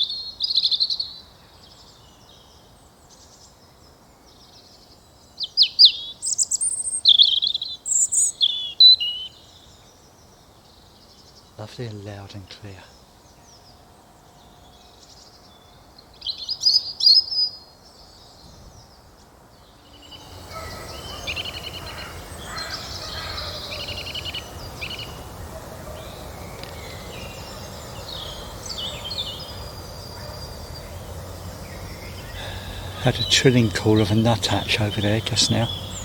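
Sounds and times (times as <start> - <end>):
robin singing: 0.0 - 36.0
steady background hiss: 0.0 - 36.0
woodland birds singing and calling: 0.0 - 36.0.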